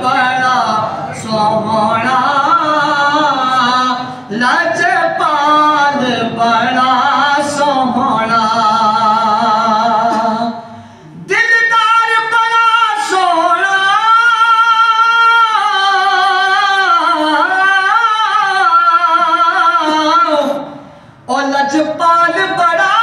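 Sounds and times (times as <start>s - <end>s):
man singing into microphone: 0.0s - 23.0s.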